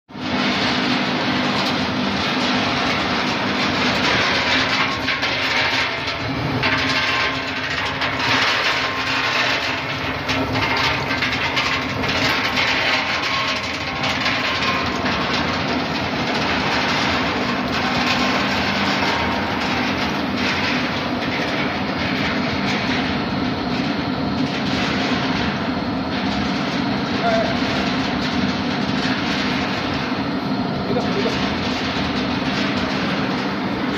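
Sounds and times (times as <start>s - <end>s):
machine hum: 0.1s - 33.9s
almonds rattling on conveyor: 2.4s - 23.1s, 26.2s - 30.0s, 30.8s - 33.9s.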